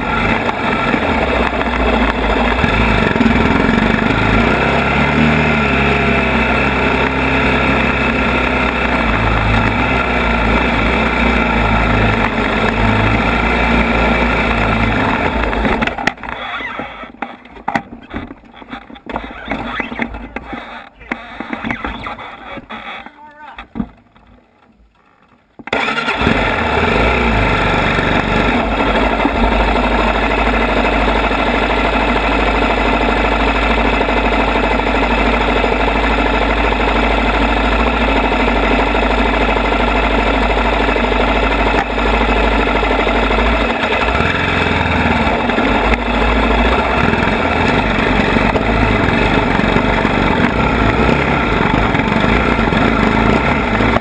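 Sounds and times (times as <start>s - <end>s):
atv engine running: 0.0s - 23.6s, 25.0s - 54.0s.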